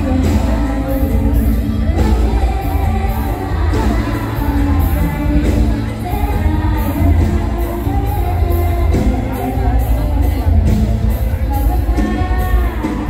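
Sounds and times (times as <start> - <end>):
live band through loudspeakers: 0.0 - 13.0
person singing: 0.0 - 13.0.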